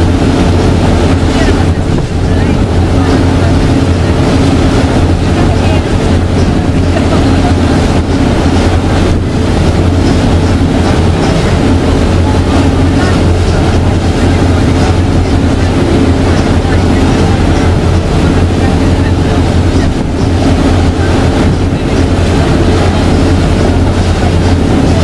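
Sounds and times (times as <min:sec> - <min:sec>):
boat engine droning: 0:00.0 - 0:25.0
water noise: 0:00.0 - 0:25.0.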